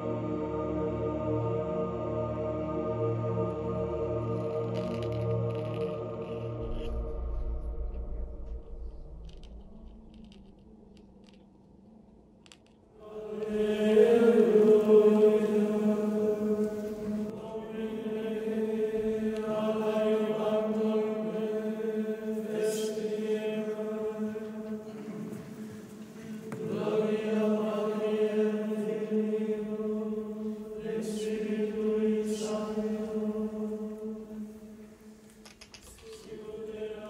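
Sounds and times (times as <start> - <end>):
voices chanting long notes: 0.0 - 7.5, 13.0 - 35.3, 36.0 - 37.0.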